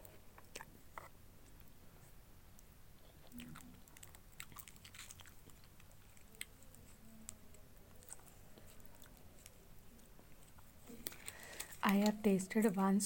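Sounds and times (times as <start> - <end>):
faint chewing of noodles: 0.0 - 11.9.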